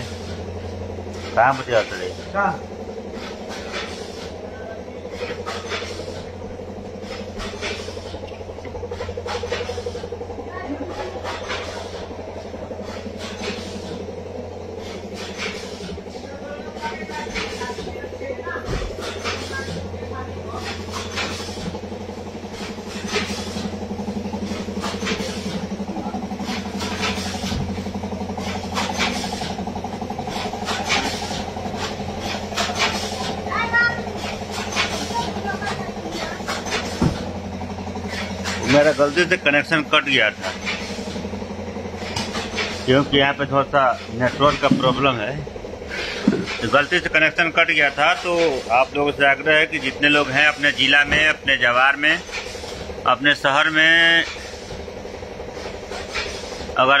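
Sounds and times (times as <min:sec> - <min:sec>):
machinery humming and buzzing: 0:00.0 - 0:57.0.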